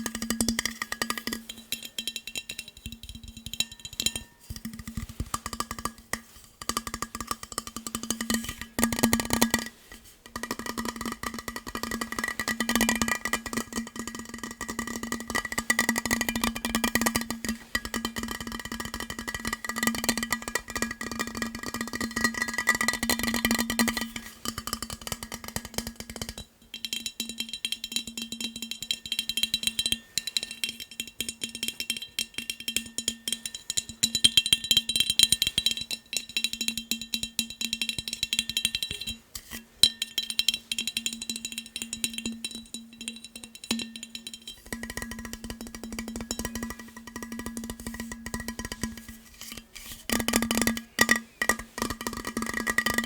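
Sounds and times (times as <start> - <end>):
fast tapping on ringing objects: 0.0 - 53.0.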